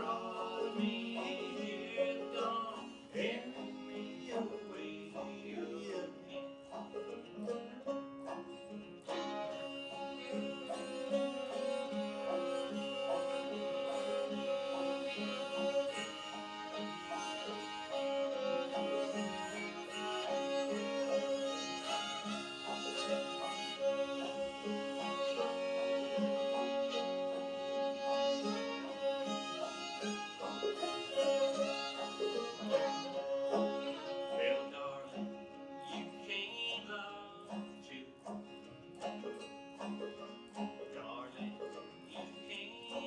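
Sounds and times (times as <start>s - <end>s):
banjo: 0.0s - 43.0s
fiddle bowing: 0.0s - 43.0s
plucked guitar: 0.0s - 43.0s.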